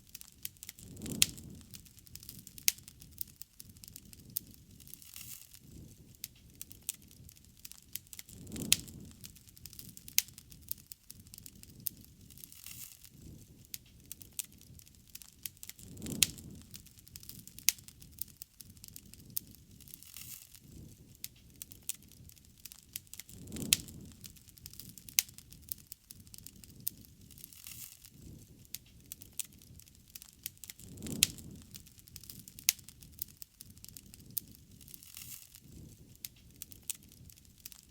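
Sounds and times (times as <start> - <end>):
bonfire crackling and popping: 0.0 - 37.9.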